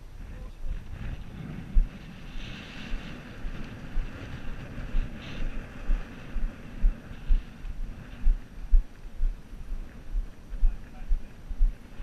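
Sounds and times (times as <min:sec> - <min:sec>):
wind buffeting microphone: 0:00.0 - 0:12.0
footsteps on sandy ground: 0:00.6 - 0:12.0.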